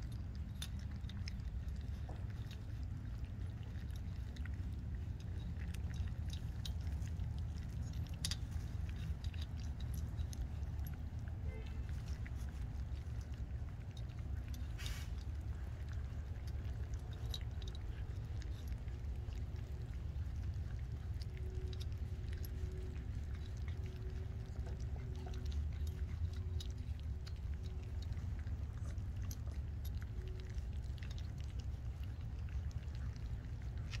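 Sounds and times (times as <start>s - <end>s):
low rumble: 0.0s - 34.0s
puppies crunching kibble: 0.0s - 34.0s.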